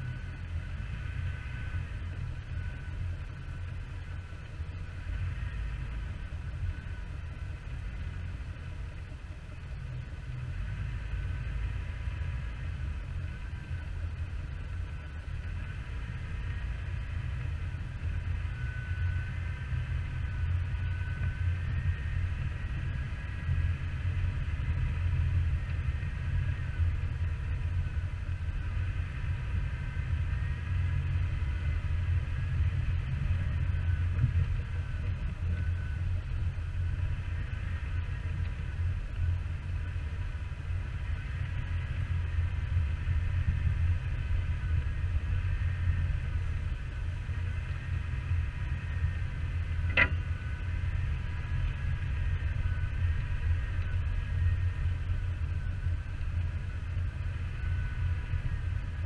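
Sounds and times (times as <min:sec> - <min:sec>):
engine low rumble: 0:00.0 - 0:59.0
faint wavering whine: 0:00.0 - 0:59.0.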